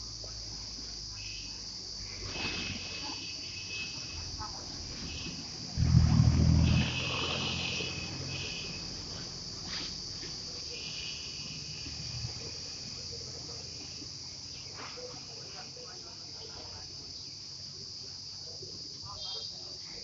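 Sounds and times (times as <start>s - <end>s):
insects droning in trees: 0.0s - 20.0s.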